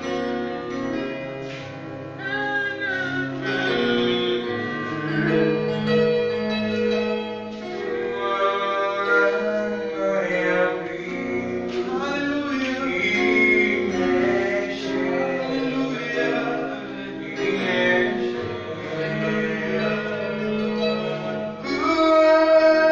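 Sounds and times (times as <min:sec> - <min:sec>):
instrumental backing: 0:00.0 - 0:22.9
man singing: 0:02.2 - 0:06.0, 0:07.7 - 0:22.9.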